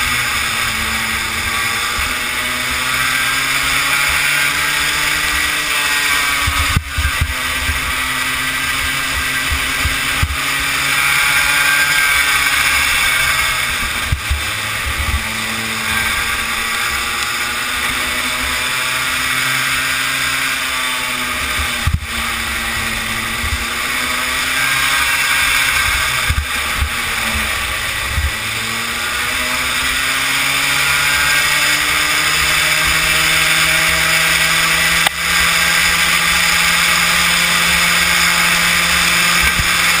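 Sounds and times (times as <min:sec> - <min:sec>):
small kart engine revving: 0:00.0 - 0:40.0.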